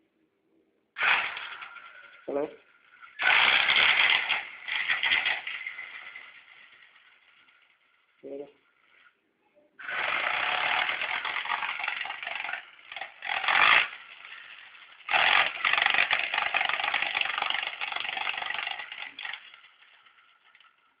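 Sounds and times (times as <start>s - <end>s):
rc truck rattling and grinding: 1.0s - 9.2s, 9.8s - 21.0s.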